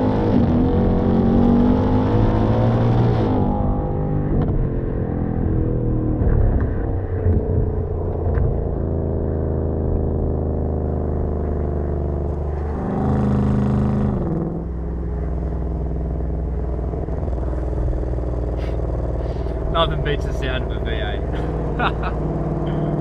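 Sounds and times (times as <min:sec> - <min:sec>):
car engine at freeway speed: 0:00.0 - 0:23.0.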